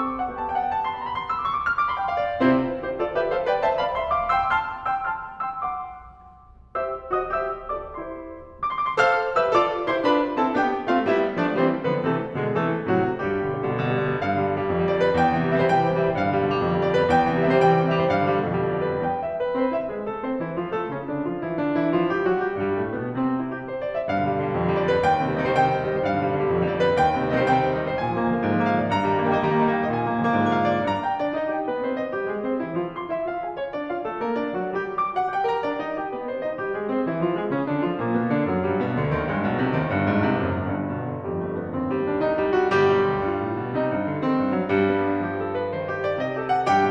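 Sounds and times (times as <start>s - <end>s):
piano music: 0.0s - 46.9s.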